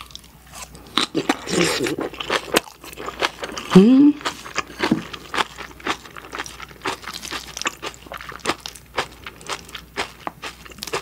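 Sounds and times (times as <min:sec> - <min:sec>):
crunching and chewing: 0:00.0 - 0:11.0.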